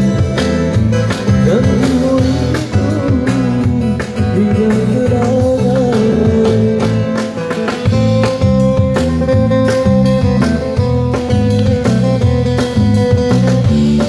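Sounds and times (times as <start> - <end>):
bass line: 0.0 - 14.0
strummed guitar: 0.0 - 14.0.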